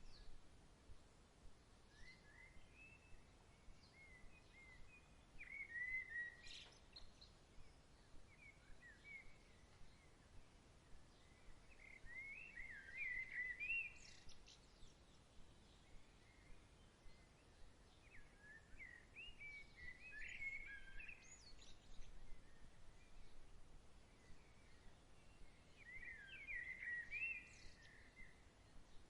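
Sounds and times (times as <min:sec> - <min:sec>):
faint birds chirping: 0:00.0 - 0:29.0
soft even hiss: 0:00.0 - 0:29.0.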